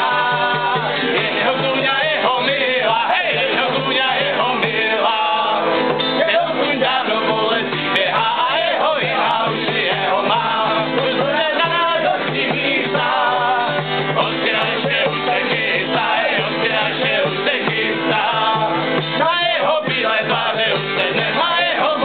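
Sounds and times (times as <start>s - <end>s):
acoustic guitar: 0.0s - 22.0s
person singing: 0.0s - 22.0s.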